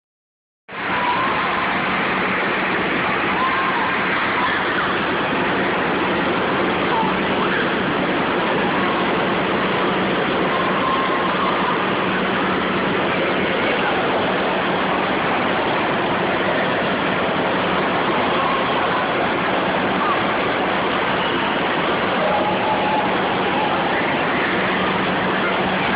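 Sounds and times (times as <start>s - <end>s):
constant low hum: 0.7s - 25.9s
distant echoing crowd voices: 0.7s - 25.9s.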